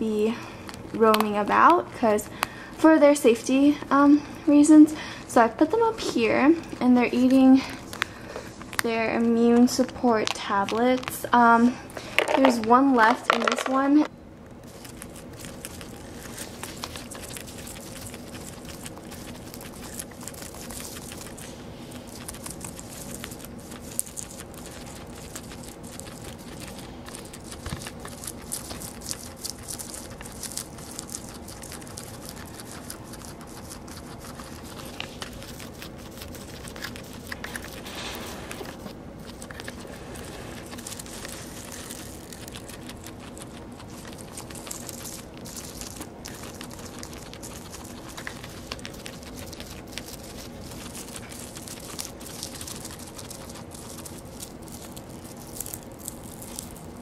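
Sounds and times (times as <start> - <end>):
faint low hum: 0.0 - 57.0
guinea pigs chewing hay: 0.0 - 57.0.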